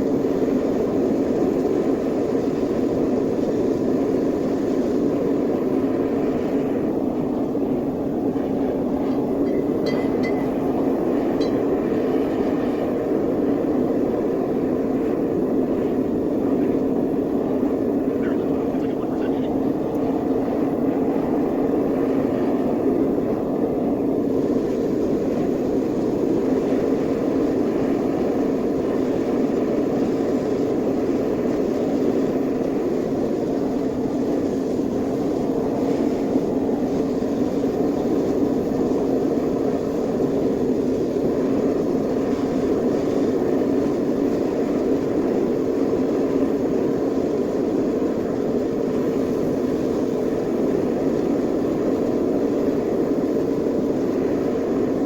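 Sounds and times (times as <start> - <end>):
furnace burner rushing: 0.0 - 55.0.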